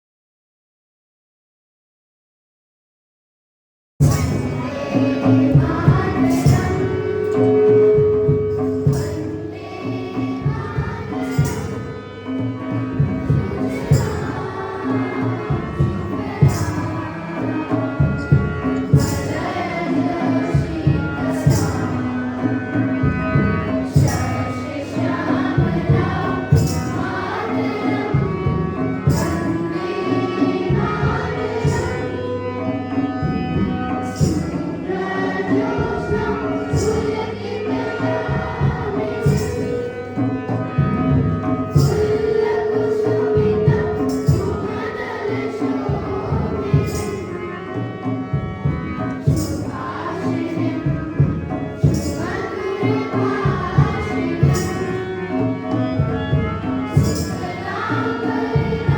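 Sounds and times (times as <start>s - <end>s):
hand percussion: 4.0s - 58.9s.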